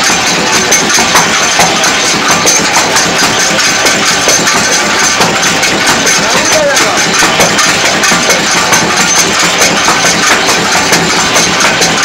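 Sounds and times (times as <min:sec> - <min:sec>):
fast regular mechanical clatter: 0:00.0 - 0:12.0
machine motor running: 0:00.0 - 0:12.0.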